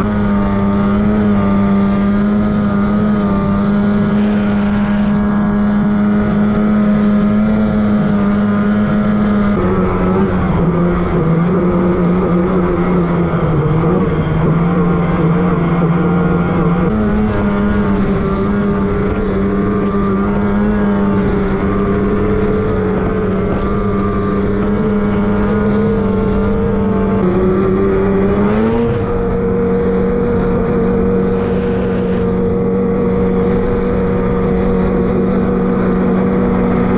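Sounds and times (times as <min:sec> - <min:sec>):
snowmobile engine at high revs: 0:00.0 - 0:36.9.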